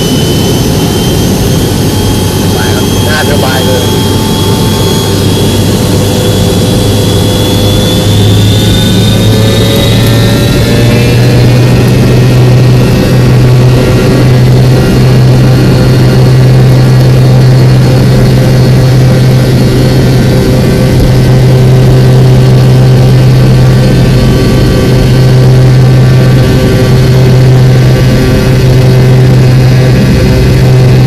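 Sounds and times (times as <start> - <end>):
airliner engines drone: 0.0 - 31.0.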